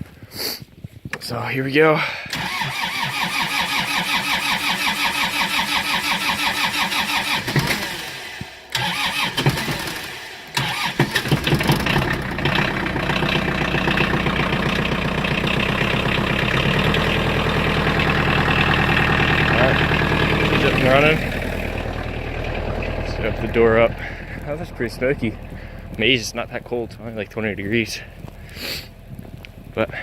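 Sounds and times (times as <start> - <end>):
starter motor cranking: 2.2 - 29.8
diesel engine idling: 2.3 - 30.0.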